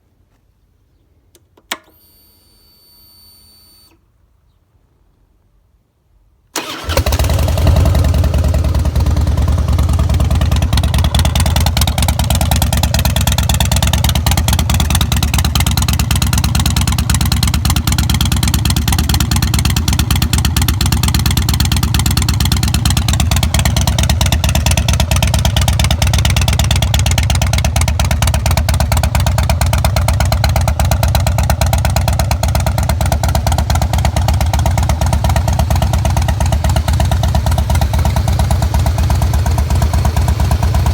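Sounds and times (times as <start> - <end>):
motorcycle engine starting and idling: 6.6 - 40.9.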